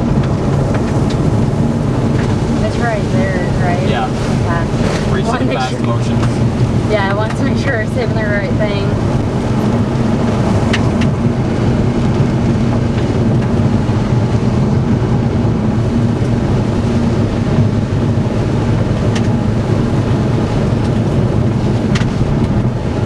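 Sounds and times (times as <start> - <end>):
road and wind noise in car: 0.0 - 23.0.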